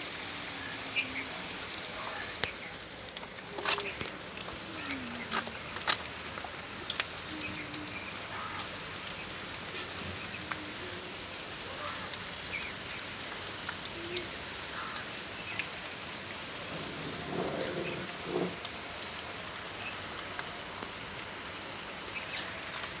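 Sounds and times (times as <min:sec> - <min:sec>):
close raindrops landing: 0:00.0 - 0:23.0
heavy rain: 0:00.0 - 0:23.0.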